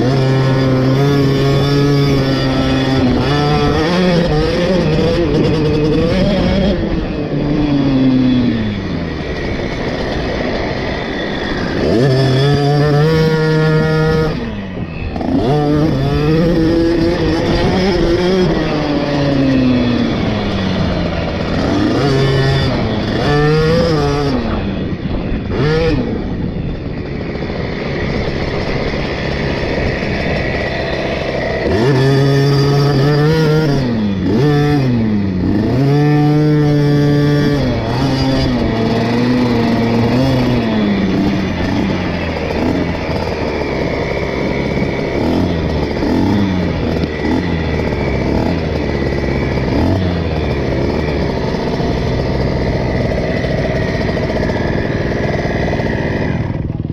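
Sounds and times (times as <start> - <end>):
two-stroke engine revving: 0.0 - 56.9.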